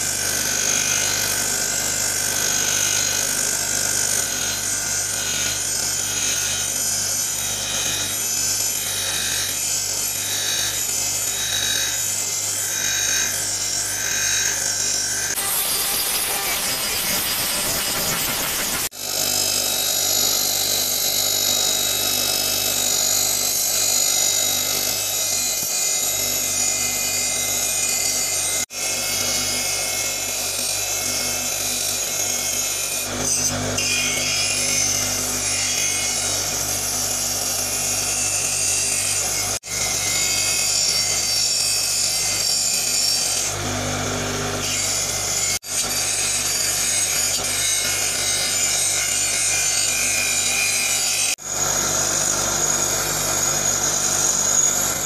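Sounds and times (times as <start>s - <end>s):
bench grinder motor hum: 0.0s - 55.0s
grinder scouring metal: 0.0s - 55.0s.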